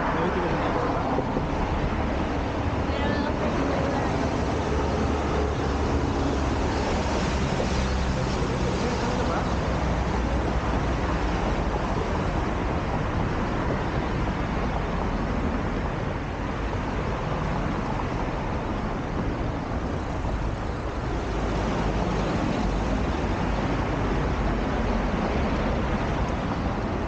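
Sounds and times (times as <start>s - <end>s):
passing cars: 0.0s - 27.0s.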